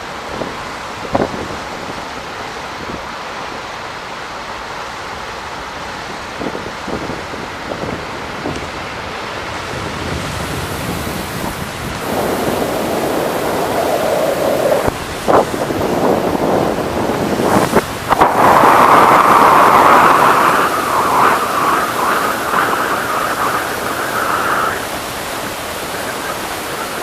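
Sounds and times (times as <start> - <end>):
wind buffeting microphone: 0.0 - 3.2, 5.8 - 27.0
rushing water: 0.0 - 27.0.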